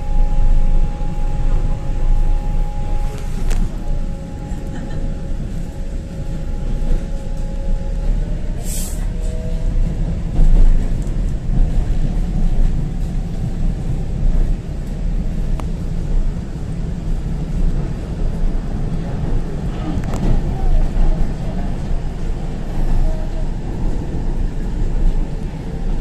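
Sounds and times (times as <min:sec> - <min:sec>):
passenger train rumbling: 0:00.0 - 0:26.0.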